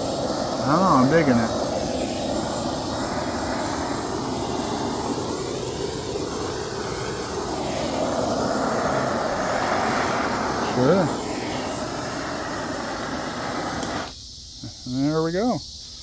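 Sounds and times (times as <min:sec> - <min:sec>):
gas torch flame blowing: 0:00.0 - 0:14.2.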